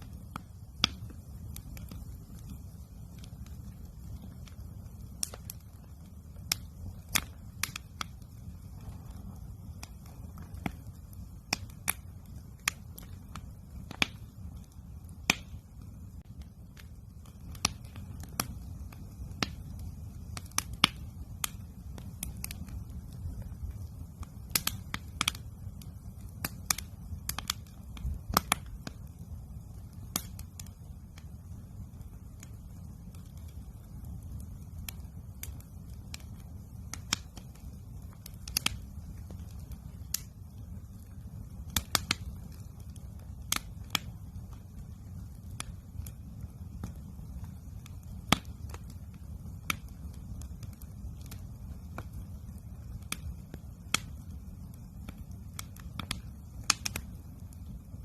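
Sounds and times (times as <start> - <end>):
campfire crackling and popping: 0.0 - 58.0
low steady rumble: 0.0 - 58.0.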